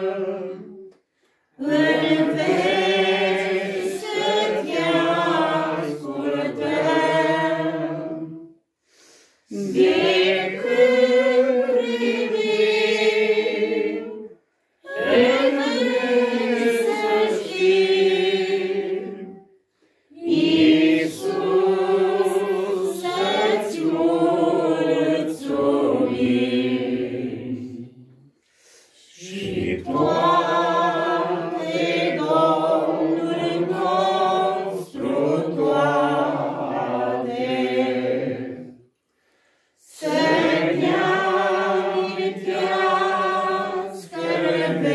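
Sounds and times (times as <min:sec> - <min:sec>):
group singing a hymn unaccompanied: 0:00.0 - 0:44.9.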